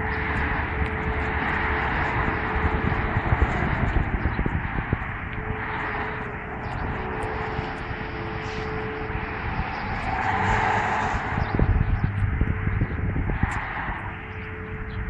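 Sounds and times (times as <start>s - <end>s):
distant warning sirens wailing: 0.0s - 15.0s
wind buffeting on microphone: 0.0s - 15.0s.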